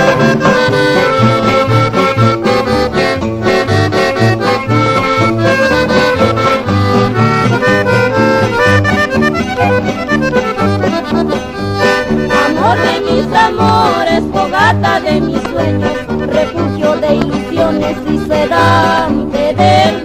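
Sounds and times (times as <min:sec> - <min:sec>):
accordion melody: 0:00.0 - 0:20.0.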